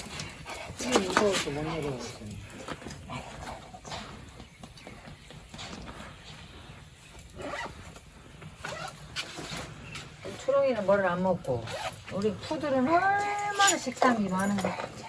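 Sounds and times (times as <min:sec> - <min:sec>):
light tapping and scuffling: 0:00.0 - 0:15.0.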